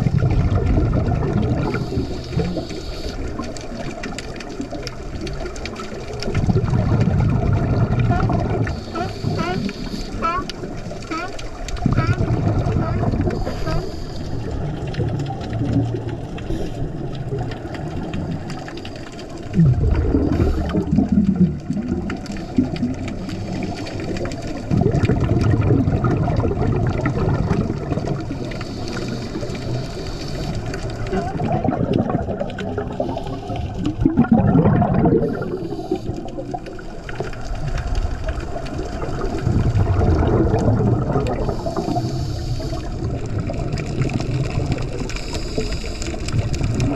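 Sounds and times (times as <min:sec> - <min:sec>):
underwater bubbles gurgling: 0:00.0 - 0:46.9.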